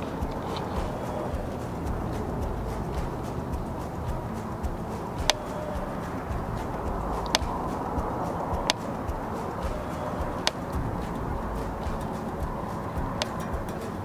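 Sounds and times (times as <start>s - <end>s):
sharp clicks: 0.0s - 14.0s.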